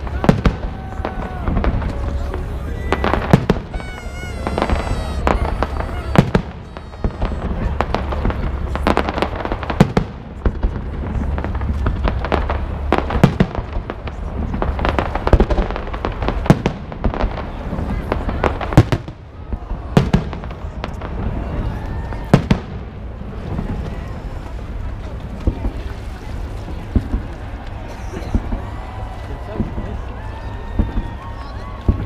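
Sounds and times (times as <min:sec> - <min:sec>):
crowd voices: 0:00.0 - 0:16.5, 0:17.1 - 0:32.0
fireworks bangs: 0:00.0 - 0:32.0.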